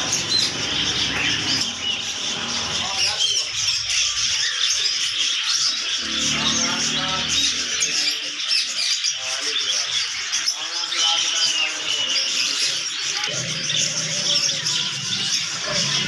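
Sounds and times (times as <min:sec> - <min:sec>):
parakeets chirping and chattering: 0:00.0 - 0:16.0.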